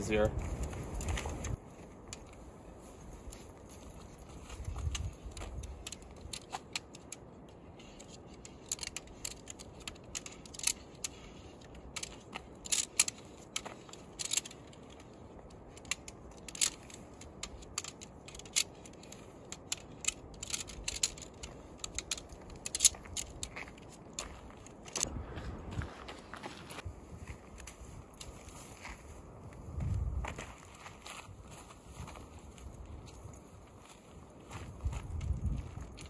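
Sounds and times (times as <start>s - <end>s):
tent pole sections clinking: 0.0s - 25.1s, 27.6s - 28.9s, 31.9s - 36.0s.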